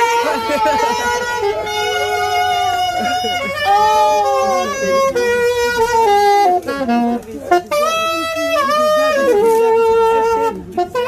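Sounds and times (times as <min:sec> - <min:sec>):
solo wind instrument melody: 0:00.0 - 0:11.0.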